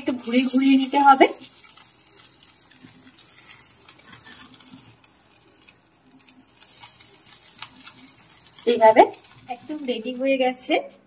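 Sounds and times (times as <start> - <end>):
meat sizzling on a grill: 0.0 - 10.9.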